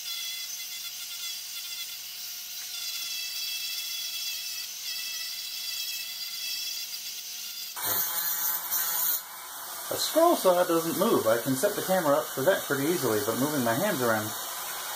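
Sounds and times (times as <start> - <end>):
rotary tool sanding wood: 0.0 - 14.9.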